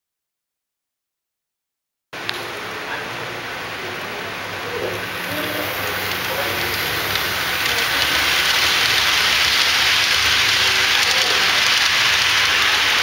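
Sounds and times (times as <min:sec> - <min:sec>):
model train rattling on track: 0:02.2 - 0:13.0.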